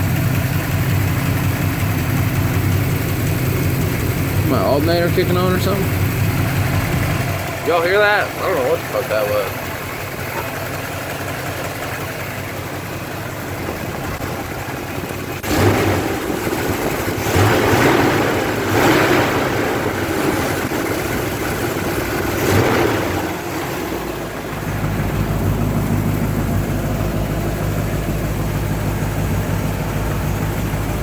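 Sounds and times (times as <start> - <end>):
pickup engine idling and surging: 0.0 - 31.0.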